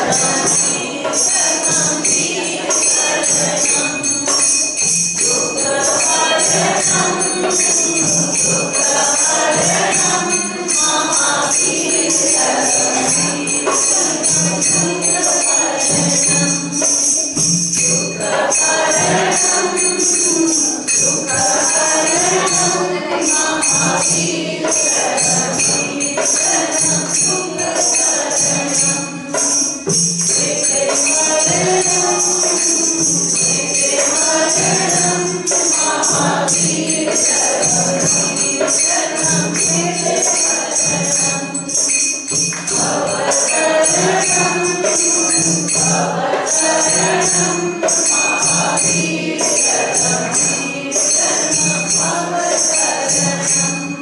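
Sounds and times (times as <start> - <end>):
congregation singing: 0.0 - 54.0
dholak drum beat: 0.0 - 54.0
jingling hand percussion: 0.0 - 54.0.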